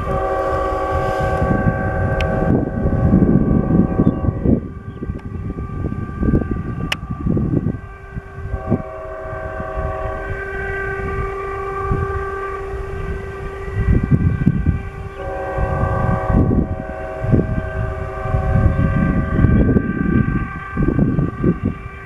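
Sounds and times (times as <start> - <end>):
distant locomotive air horn: 0.0 - 22.0
low rumble: 0.0 - 22.0
wind buffeting microphone: 0.0 - 22.0.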